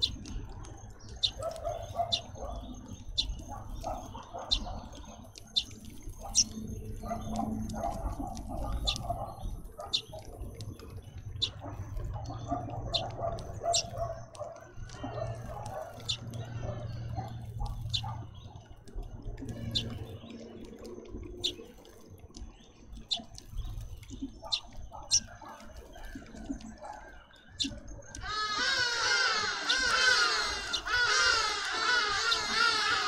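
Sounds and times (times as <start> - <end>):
birds chirping and twittering: 0.0 - 33.0.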